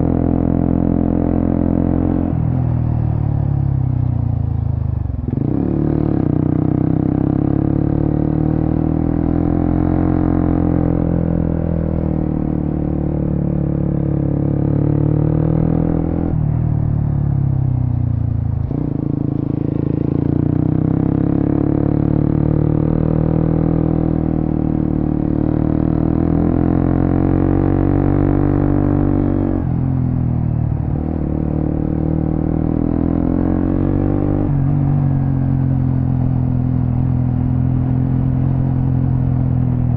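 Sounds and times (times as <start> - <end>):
motorcycle engine revving: 5.1 - 17.6, 18.2 - 39.9.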